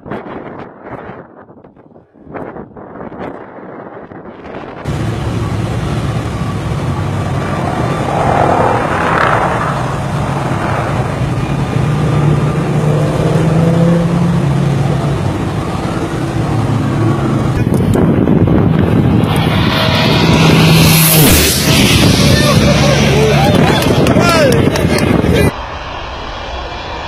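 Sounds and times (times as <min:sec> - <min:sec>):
jet engines passing overhead: 0:00.0 - 0:27.0.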